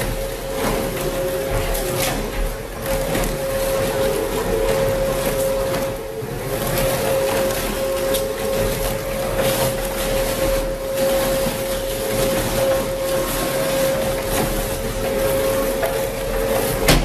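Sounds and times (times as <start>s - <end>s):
machine whine: 0.0s - 17.0s
mechanical noise: 0.0s - 17.0s.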